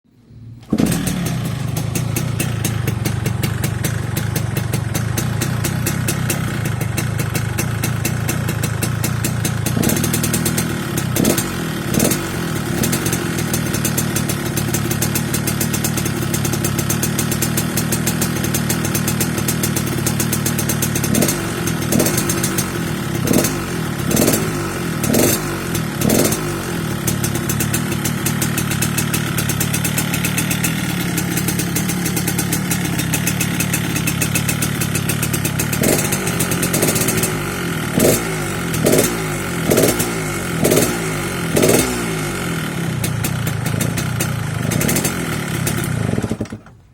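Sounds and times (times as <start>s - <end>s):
engine throttle blips: 0.3s - 46.8s
two-stroke motorcycle engine idling: 0.6s - 46.9s.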